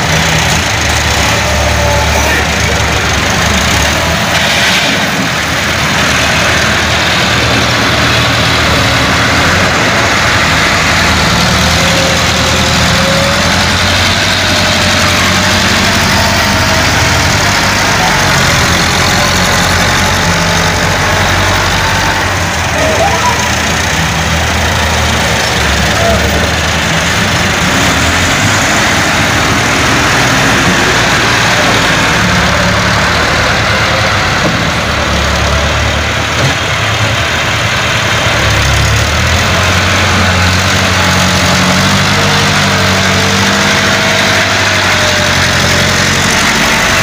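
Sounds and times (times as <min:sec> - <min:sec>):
diesel tractor engines running: 0:00.0 - 0:47.0.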